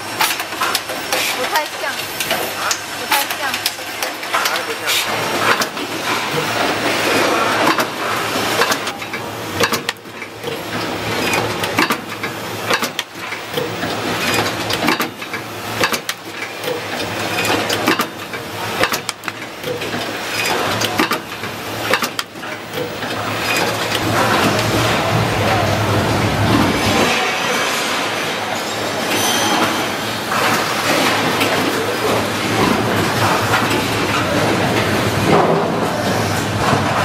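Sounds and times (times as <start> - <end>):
machines clattering and clicking: 0.0 - 37.0.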